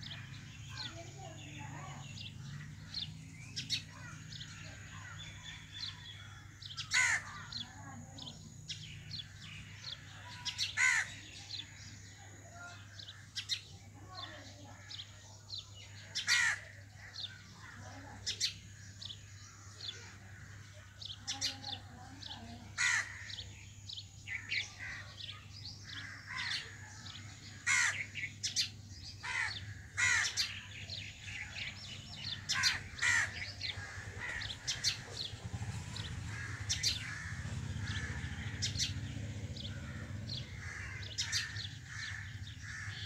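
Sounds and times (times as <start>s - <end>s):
birds calling harshly: 0.0s - 43.0s.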